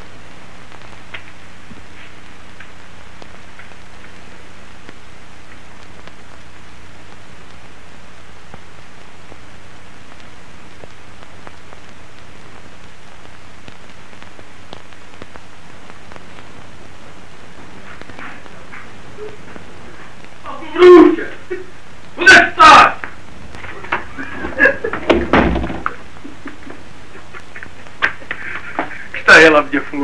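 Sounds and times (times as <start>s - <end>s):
low electrical hum: 0.0s - 30.0s
steady hiss: 0.0s - 30.0s.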